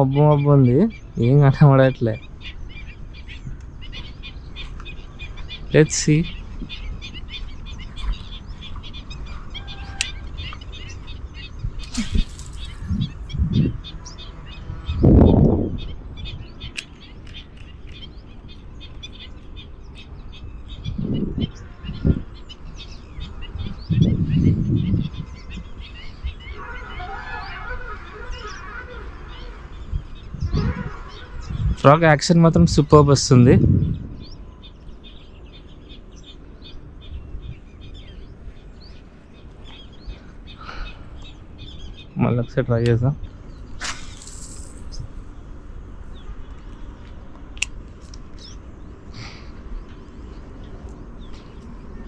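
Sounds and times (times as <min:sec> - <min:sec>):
steady low rumble: 0:00.0 - 0:27.1, 0:27.8 - 0:52.0
small birds chirping: 0:00.0 - 0:52.0.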